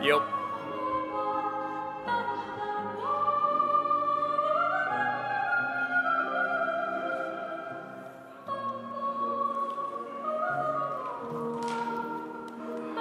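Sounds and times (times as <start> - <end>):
opera singer: 0.0 - 13.0
orchestra: 0.0 - 13.0.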